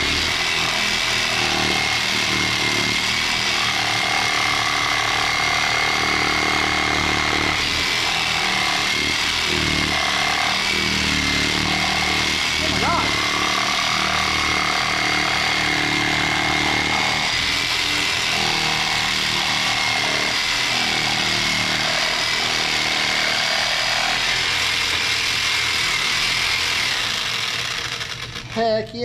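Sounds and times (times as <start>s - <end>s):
electric jigsaw cutting rubber: 0.0s - 29.0s.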